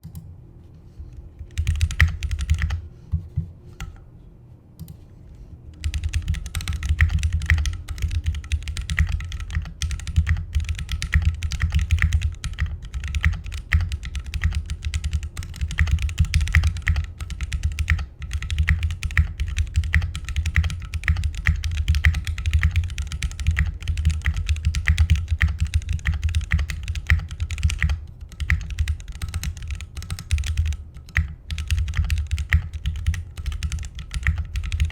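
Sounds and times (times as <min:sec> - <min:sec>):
typing on mechanical keyboard: 0:01.4 - 0:02.8, 0:05.8 - 0:34.9.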